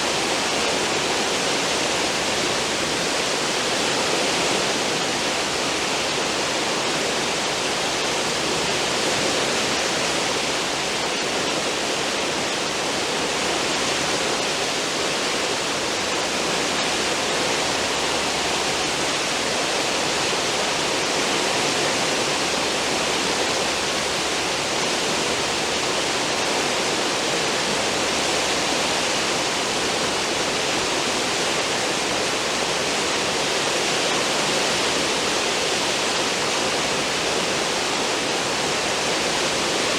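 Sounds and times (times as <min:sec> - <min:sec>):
ship wake rushing water: 0:00.0 - 0:39.9.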